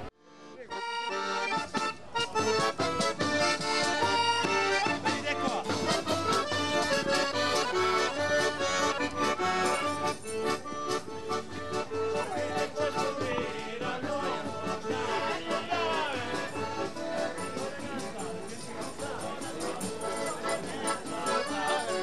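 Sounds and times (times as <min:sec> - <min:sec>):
accordion music: 0:00.0 - 0:22.0.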